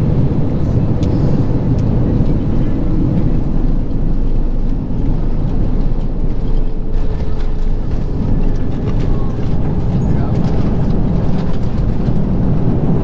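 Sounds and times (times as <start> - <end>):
deep rumble of engines and wheels: 0.0 - 13.0.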